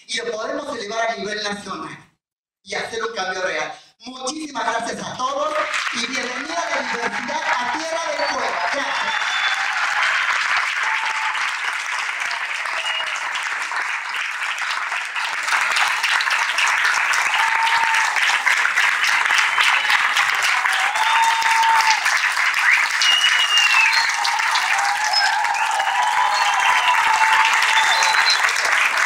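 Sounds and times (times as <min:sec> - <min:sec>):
audience applauding: 0:05.2 - 0:29.0.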